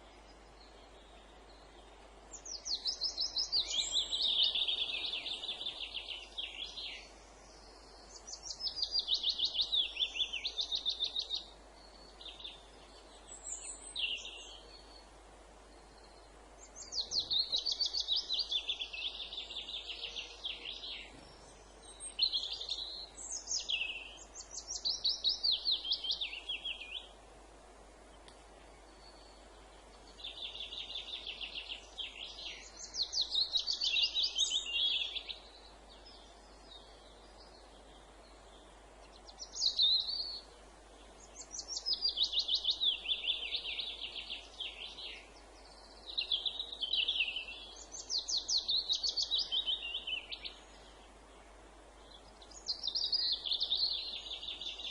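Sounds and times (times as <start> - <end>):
faint background noise: 0.0 - 54.9.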